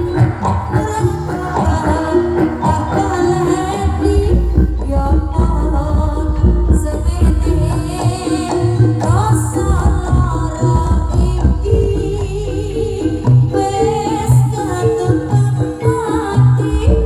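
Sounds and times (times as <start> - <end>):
gamelan melodic instruments: 0.0 - 17.0
hand drums beating: 0.0 - 17.0.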